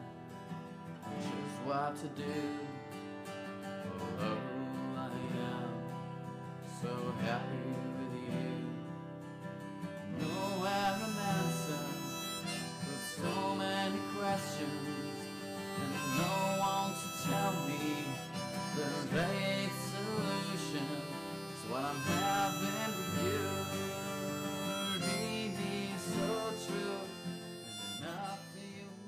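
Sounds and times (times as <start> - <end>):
harmonica melody: 0.0 - 8.6, 9.6 - 29.0
guitar accompaniment: 0.0 - 29.0.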